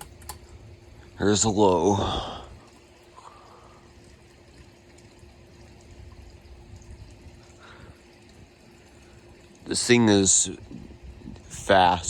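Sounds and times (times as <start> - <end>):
ceiling fan motor hum: 0.0 - 12.0
fan blades rushing air: 0.0 - 12.0.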